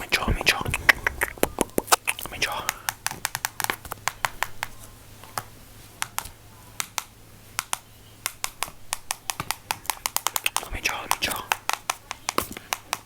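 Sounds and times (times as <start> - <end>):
sharp irregular clicks and taps: 0.0 - 13.0.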